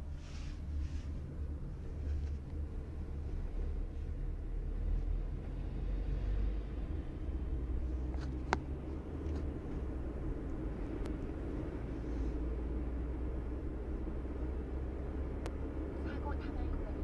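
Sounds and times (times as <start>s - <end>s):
road and engine rumble inside car: 0.0s - 17.0s.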